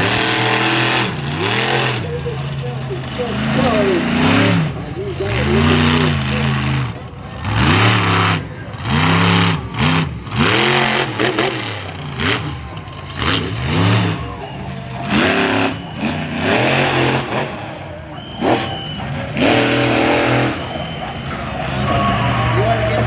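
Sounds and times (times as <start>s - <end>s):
monster truck engines revving: 0.0s - 23.0s.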